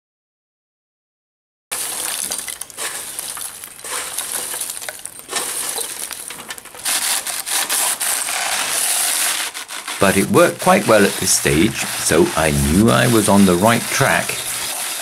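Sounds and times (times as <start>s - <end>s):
charcoal crunching in grinder: 1.7s - 15.0s.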